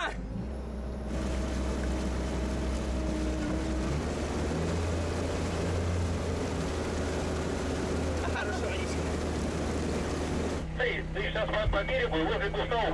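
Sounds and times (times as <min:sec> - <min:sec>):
low engine drone: 0:00.0 - 0:12.9
water rushing and splashing: 0:00.9 - 0:11.4.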